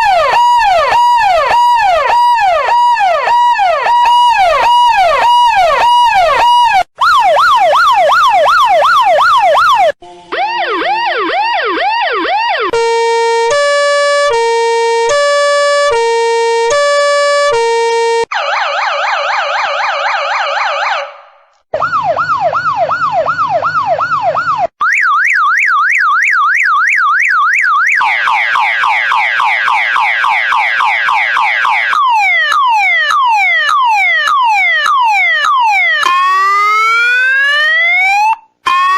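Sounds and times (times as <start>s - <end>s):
falling siren sweeps: 0.0s - 38.9s
two-tone siren: 0.0s - 38.9s
yelping and wailing sirens: 0.0s - 38.9s.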